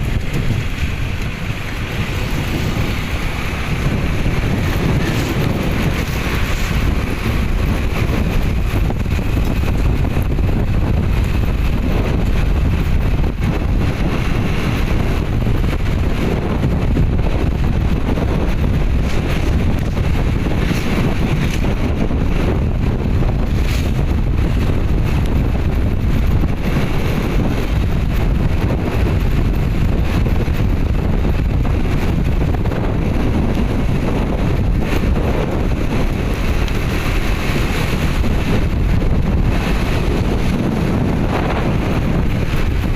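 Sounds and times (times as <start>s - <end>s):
steady low rumble: 0.0s - 42.9s
wind buffeting the microphone: 0.0s - 42.9s.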